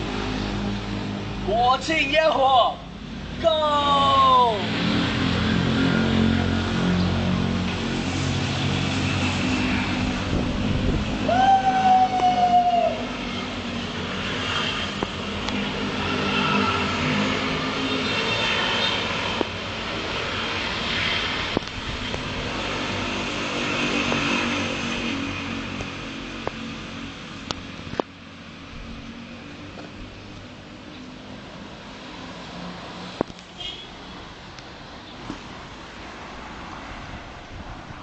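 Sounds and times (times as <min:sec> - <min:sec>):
vehicle engines passing: 0:00.0 - 0:38.0.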